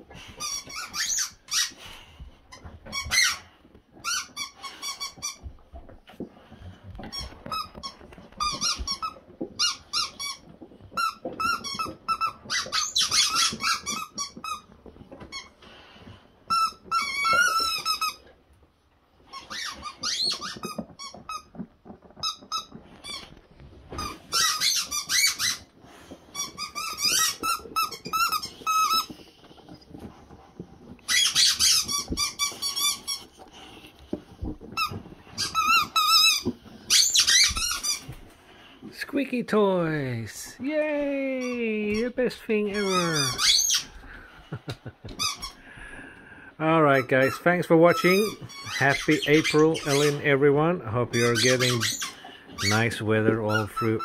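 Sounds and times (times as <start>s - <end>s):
rubber dog toys squeaking: 0.0s - 54.0s.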